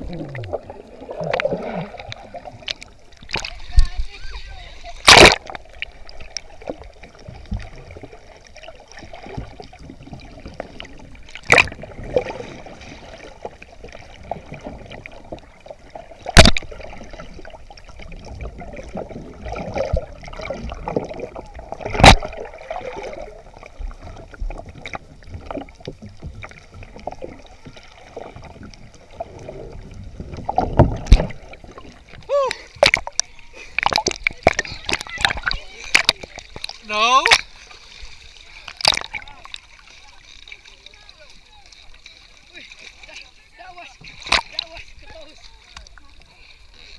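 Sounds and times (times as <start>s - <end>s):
underwater churning wash: 0.0s - 46.9s.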